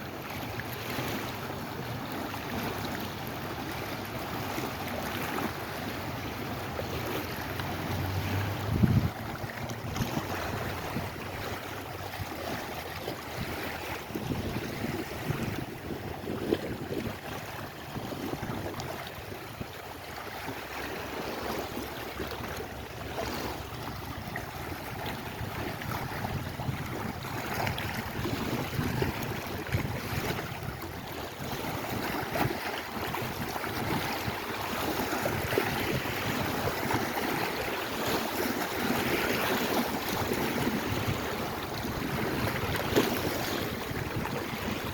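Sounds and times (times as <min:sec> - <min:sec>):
waves lapping at shore: 0:00.0 - 0:44.9
wind buffeting microphone: 0:05.0 - 0:44.9.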